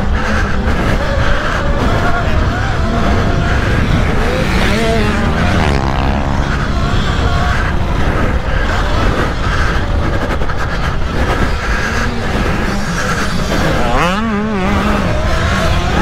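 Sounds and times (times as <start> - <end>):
pit bike engines revving: 0.0 - 16.0.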